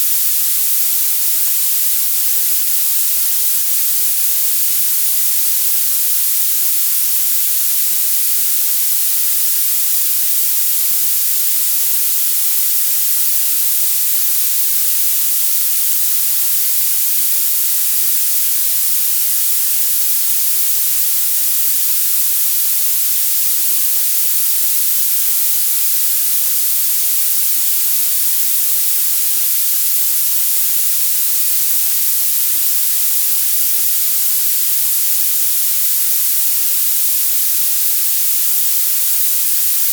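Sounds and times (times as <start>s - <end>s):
high-pitched synthetic hiss: 0.0s - 39.9s.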